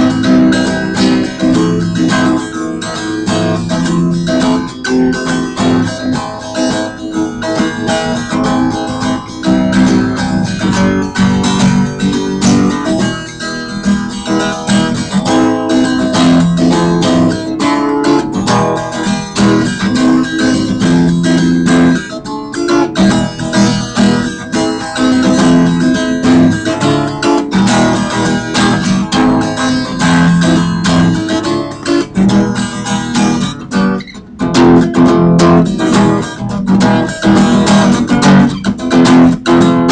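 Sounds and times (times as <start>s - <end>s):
guitar plucked and strummed: 0.0s - 39.9s.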